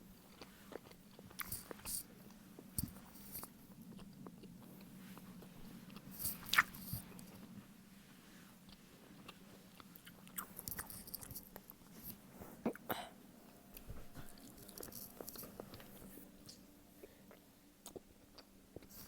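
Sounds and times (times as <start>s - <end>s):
chewing with mouth sounds: 0.0s - 19.0s.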